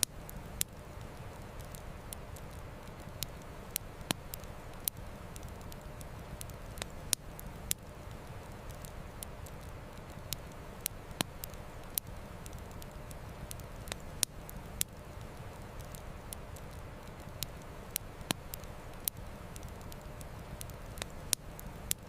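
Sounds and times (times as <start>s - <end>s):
burning wood popping: 0.0s - 22.0s
campfire crackling: 0.0s - 22.0s.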